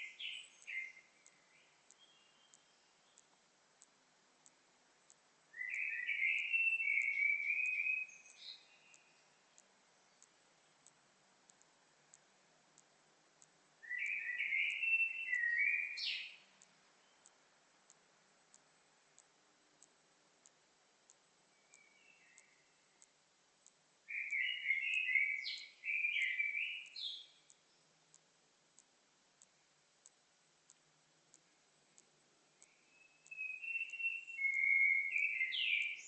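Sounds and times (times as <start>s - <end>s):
songbird singing: 0.0s - 4.6s, 5.2s - 36.0s
faint regular ticking: 0.0s - 36.0s.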